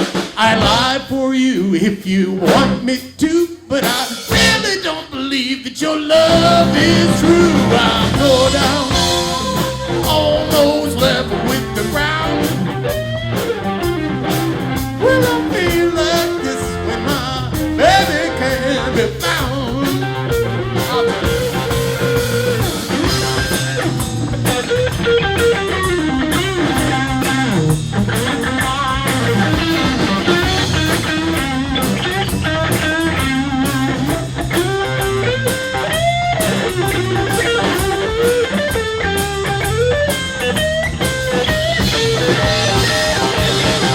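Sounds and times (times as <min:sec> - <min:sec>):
blues band playing: 0:00.0 - 0:43.9
electric guitar bending notes: 0:04.3 - 0:04.9, 0:06.2 - 0:43.9.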